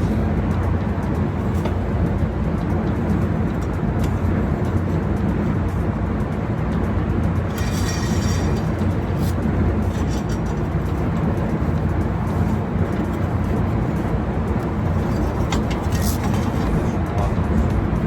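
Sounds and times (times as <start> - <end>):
loud machinery hum: 0.0 - 18.0.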